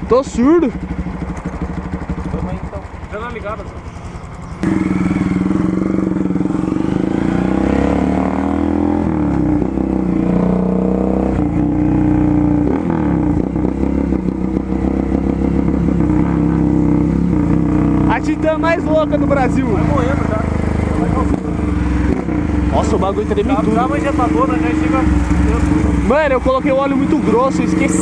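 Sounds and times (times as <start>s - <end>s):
motorcycle engine revving loudly: 0.0s - 28.0s.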